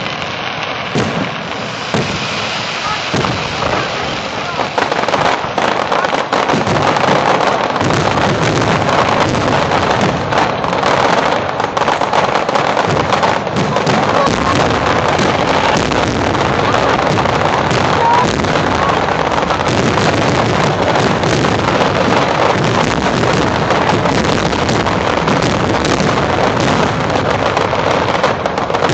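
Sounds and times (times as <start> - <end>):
crowd voices: 0.0 - 24.2
fireworks bangs and crackles: 0.0 - 28.9.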